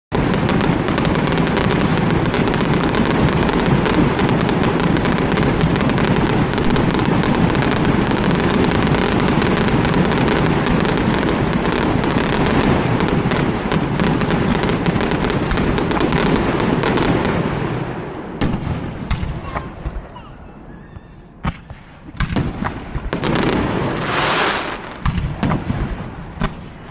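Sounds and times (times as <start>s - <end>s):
fireworks booms and crackling: 0.1s - 26.9s.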